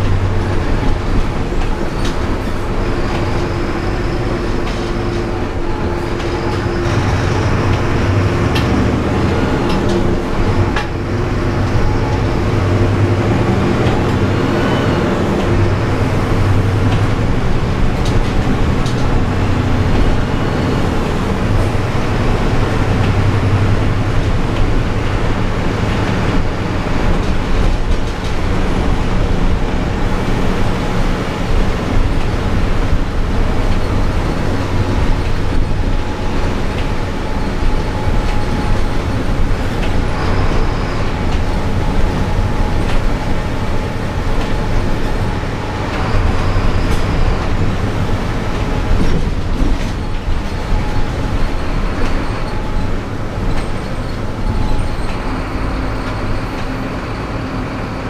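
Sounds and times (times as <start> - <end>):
bus engine drone: 0.0 - 58.0
road and tyre noise: 0.0 - 58.0.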